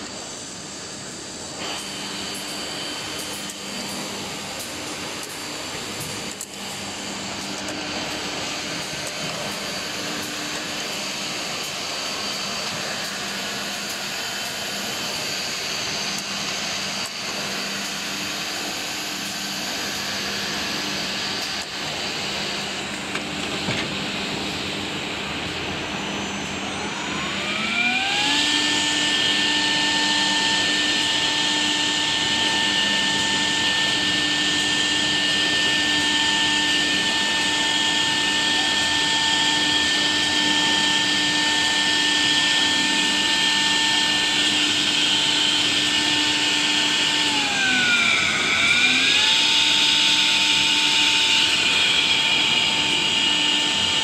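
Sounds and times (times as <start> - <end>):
machine and dust extraction noise: 0.0 - 54.0
spindle high whine: 0.0 - 54.0.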